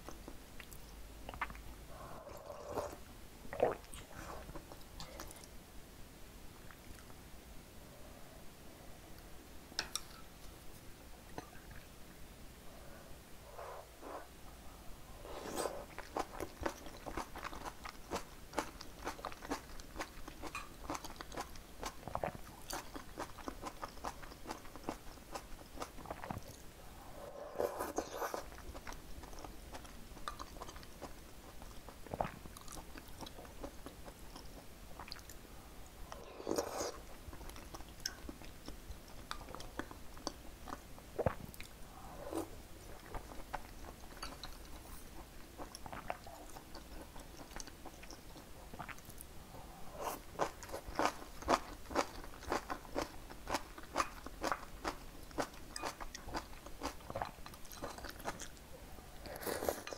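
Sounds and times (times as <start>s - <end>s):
soft wet chewing: 0.0s - 5.6s, 6.6s - 7.2s, 9.1s - 12.2s, 15.2s - 26.8s, 27.5s - 59.9s.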